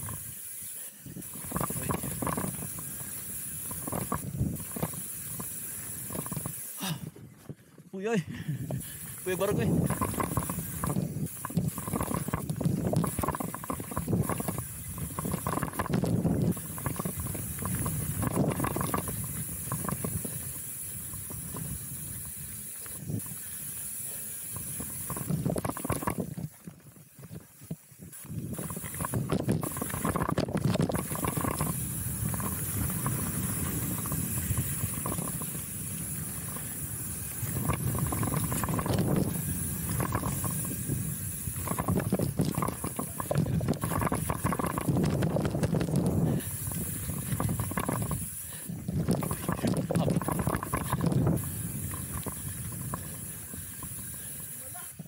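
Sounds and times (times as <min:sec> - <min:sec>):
wind on microphone: 0:01.0 - 0:23.4, 0:24.5 - 0:55.0.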